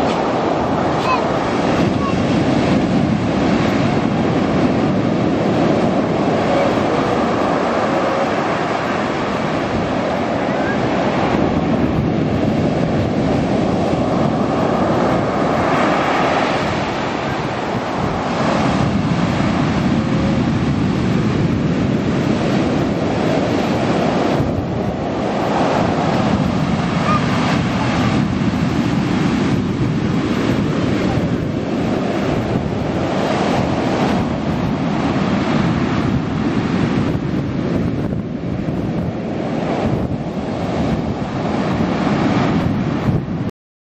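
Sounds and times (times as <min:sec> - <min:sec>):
waves washing on pebble beach: 0:00.0 - 0:43.2
wind buffeting microphone: 0:00.0 - 0:43.5.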